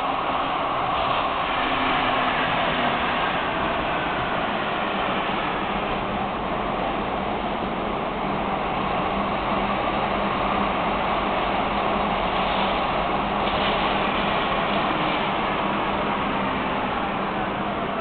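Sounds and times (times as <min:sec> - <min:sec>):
train rumbling through tunnel: 0:00.0 - 0:18.0.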